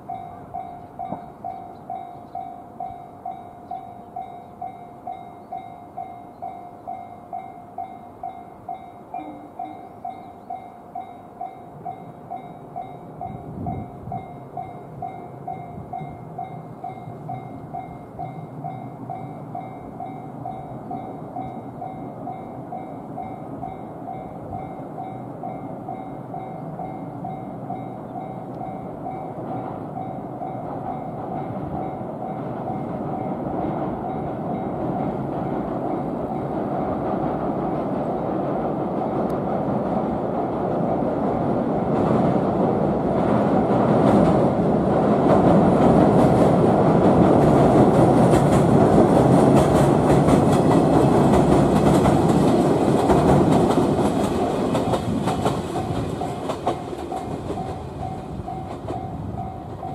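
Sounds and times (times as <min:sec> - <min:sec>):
electric train rumbling: 0:00.0 - 0:59.9
train wheels clacking: 0:00.0 - 0:59.9.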